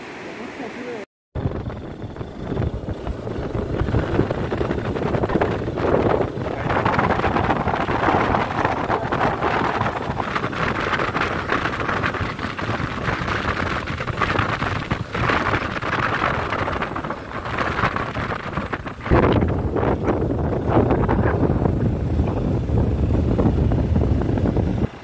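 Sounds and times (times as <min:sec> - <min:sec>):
motorcycle running and road noise: 0:01.4 - 0:25.0
wind buffeting microphone: 0:01.4 - 0:25.0.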